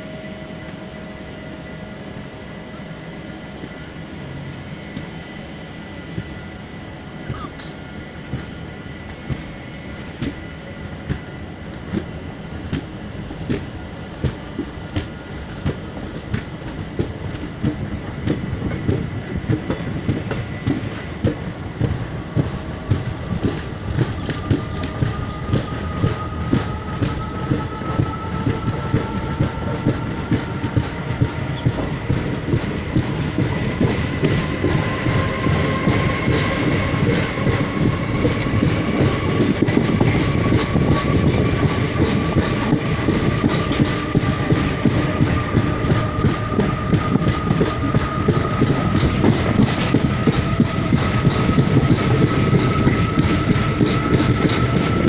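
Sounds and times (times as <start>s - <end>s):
train rumble: 0.0s - 55.0s
train wheels clattering: 7.3s - 55.0s.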